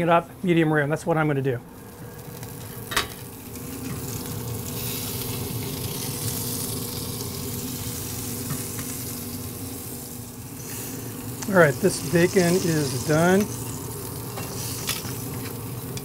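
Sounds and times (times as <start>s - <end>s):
bacon frying: 1.7s - 16.0s
meat sizzling on a grill: 1.7s - 16.0s.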